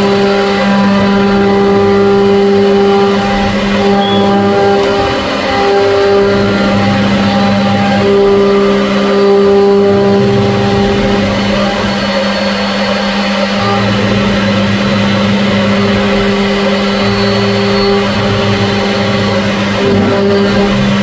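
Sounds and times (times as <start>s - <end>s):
machine motor hum and whirr: 0.0s - 21.0s.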